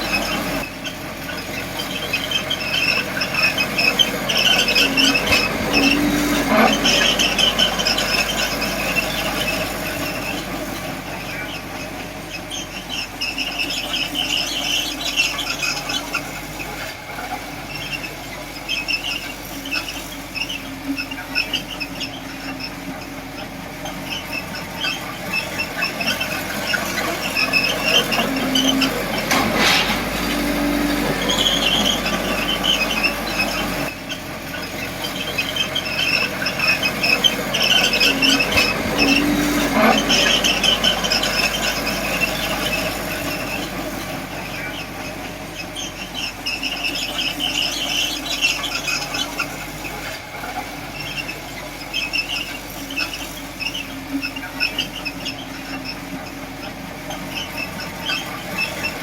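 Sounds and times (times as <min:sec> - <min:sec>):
bulldozer pushing soil: 0:00.0 - 0:59.0
diesel engine running: 0:00.0 - 0:59.0
steel tracks squealing: 0:00.0 - 0:59.0.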